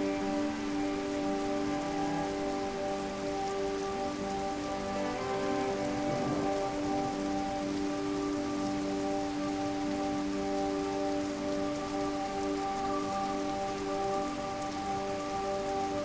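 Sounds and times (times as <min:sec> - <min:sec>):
soft held musical tones: 0:00.0 - 0:16.0
waterfall rushing: 0:00.0 - 0:16.0.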